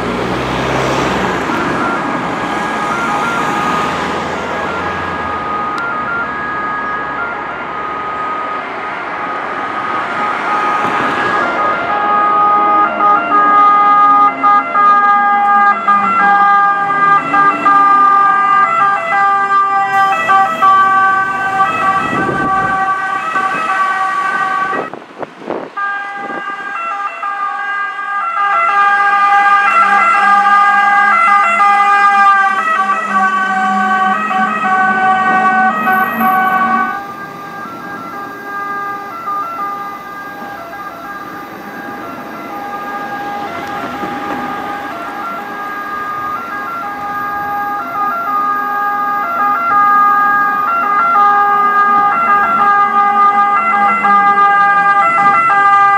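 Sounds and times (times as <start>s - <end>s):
fire engine sirens: 0.0s - 55.9s.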